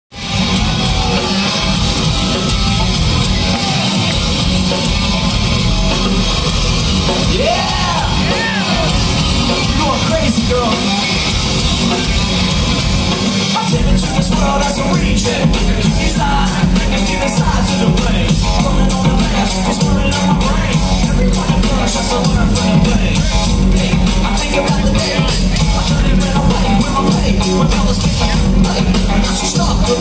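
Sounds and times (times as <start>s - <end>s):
crowd yelling and whooping: 0.1s - 30.0s
metal band playing live: 0.1s - 30.0s.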